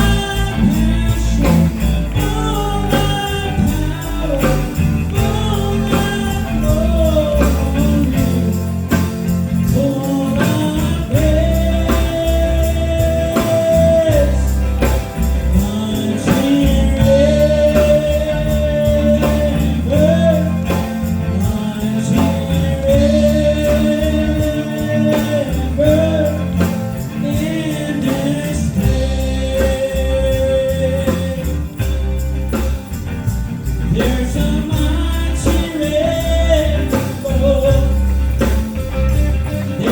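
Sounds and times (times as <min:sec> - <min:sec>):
live gospel band music: 0:00.0 - 0:39.9
tambourine: 0:00.0 - 0:39.9.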